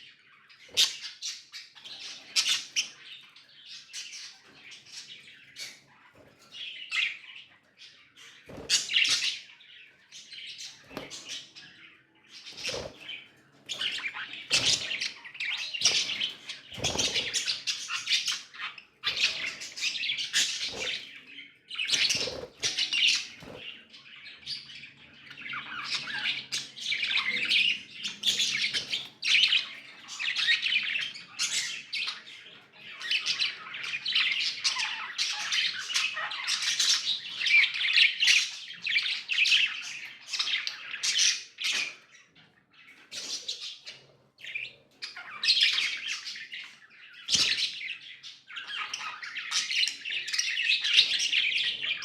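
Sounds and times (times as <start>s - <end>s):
budgies chattering and chirping: 0.0s - 52.0s.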